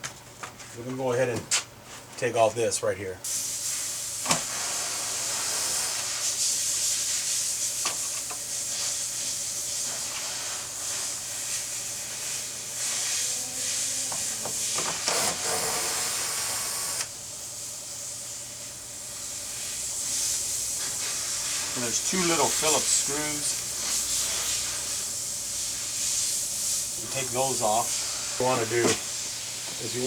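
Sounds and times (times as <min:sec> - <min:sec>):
steady hiss: 0:03.2 - 0:30.0.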